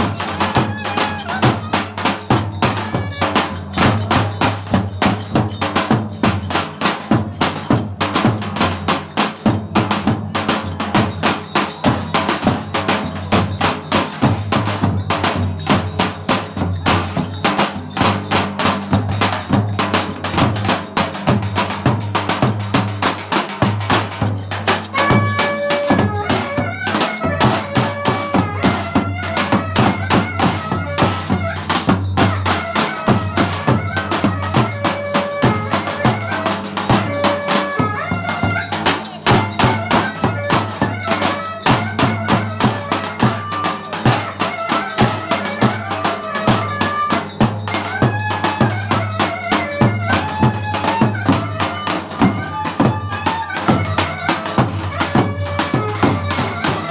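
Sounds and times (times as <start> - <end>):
fast drum beat: 0.0 - 56.9
folk dance music ensemble: 0.0 - 56.9
sharp clacking percussion: 0.0 - 56.9.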